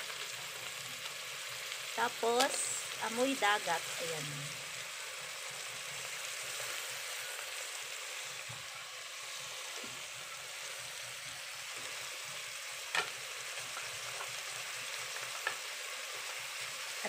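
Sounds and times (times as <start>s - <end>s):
mussels sizzling in a pot: 0.0s - 17.0s.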